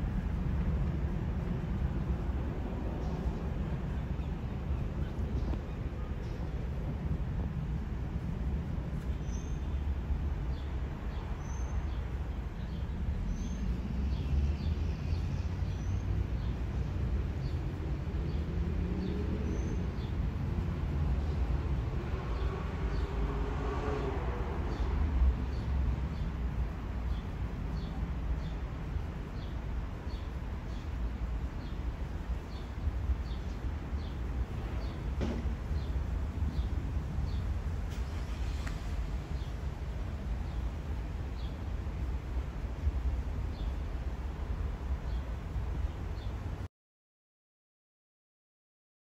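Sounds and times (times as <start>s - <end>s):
jet airliner rumble overhead: 0.0s - 46.7s.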